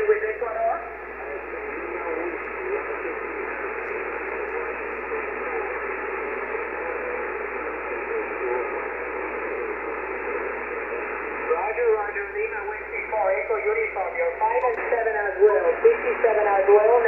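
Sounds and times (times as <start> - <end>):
faint voice in radio noise: 0.0 - 17.0
radio static hiss: 0.0 - 17.0.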